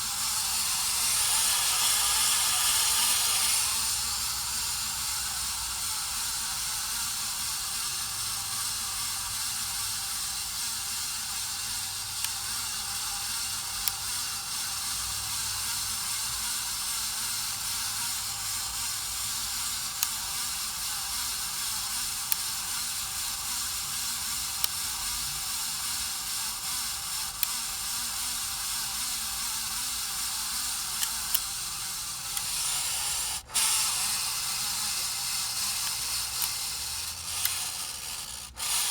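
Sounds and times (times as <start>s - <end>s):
ceiling fan rough hiss: 0.0s - 38.9s
sharp bearing ticks: 0.0s - 38.9s.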